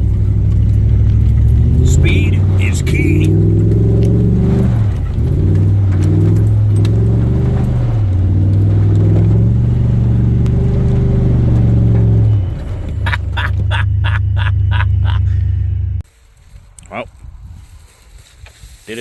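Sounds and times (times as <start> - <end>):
vehicle engine revving hard: 0.0 - 15.8.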